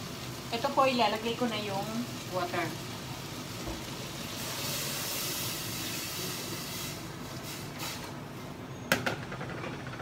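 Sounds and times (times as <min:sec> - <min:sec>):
water hissing in hot pan: 0:00.0 - 0:08.2.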